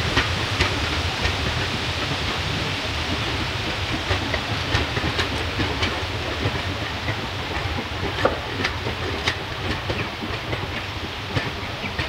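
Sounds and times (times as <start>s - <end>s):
sharp clicks of train: 0.0s - 12.0s
train rumble: 0.0s - 12.0s.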